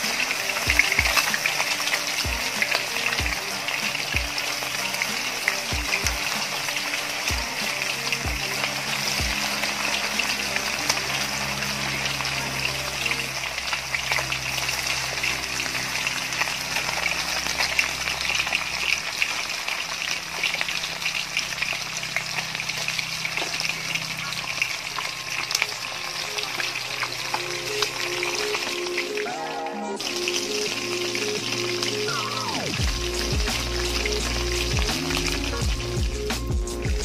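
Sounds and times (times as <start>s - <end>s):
oil crackling and sizzling: 0.0s - 37.0s.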